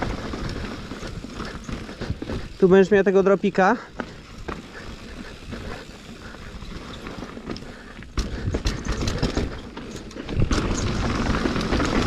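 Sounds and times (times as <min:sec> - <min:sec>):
bike chain and frame rattling: 0:00.0 - 0:12.0
bike tyre rumble: 0:00.0 - 0:12.0.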